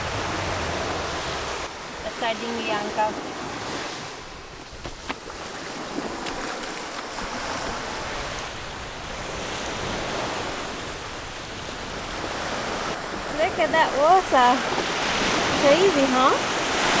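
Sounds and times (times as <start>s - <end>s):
surf breaking on beach: 0.0s - 4.8s, 5.4s - 17.0s.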